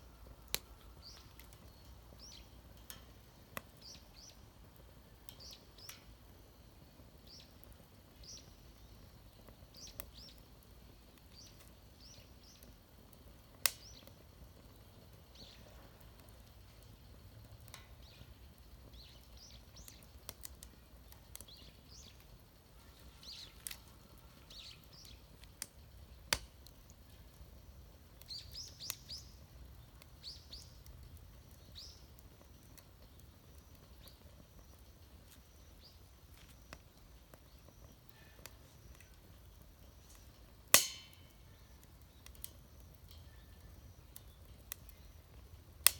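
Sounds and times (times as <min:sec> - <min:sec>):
faint outdoor background: 0:00.0 - 0:45.9
small birds chirping: 0:00.2 - 0:40.6, 0:41.3 - 0:45.9.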